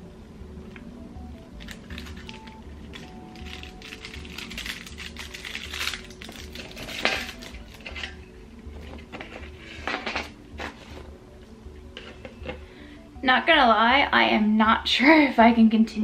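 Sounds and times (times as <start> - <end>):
quiet background music with beat: 0.0 - 16.0.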